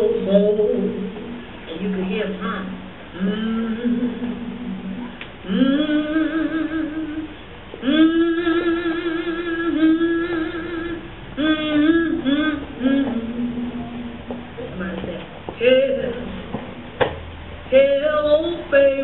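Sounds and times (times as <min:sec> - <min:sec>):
person singing with vibrato: 0:00.0 - 0:16.5, 0:17.7 - 0:19.0.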